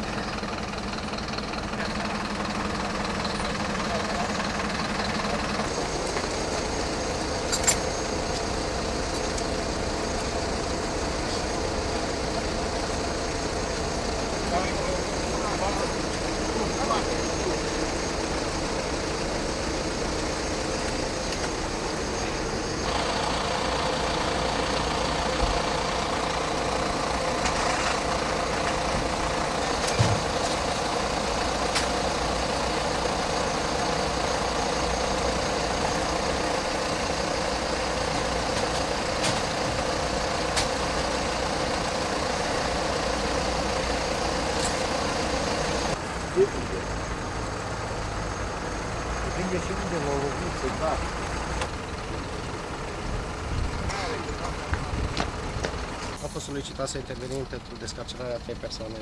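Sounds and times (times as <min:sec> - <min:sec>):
vehicle engines idling: 0:00.0 - 0:59.0.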